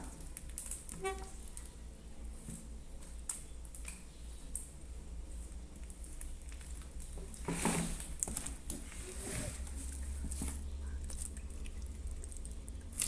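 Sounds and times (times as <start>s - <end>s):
hands kneading slime: 0.0s - 13.0s.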